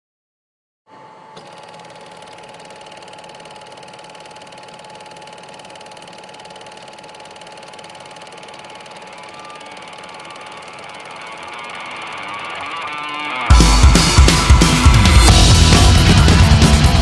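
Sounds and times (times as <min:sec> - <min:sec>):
projector whine: 0:00.9 - 0:17.0
film projector clattering: 0:01.4 - 0:17.0.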